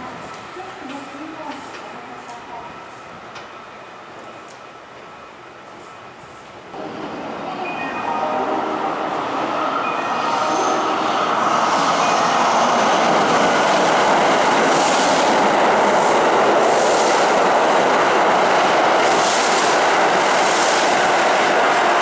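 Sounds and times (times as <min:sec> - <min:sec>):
train wheels rumbling on rail: 0:00.0 - 0:07.5, 0:08.6 - 0:22.0.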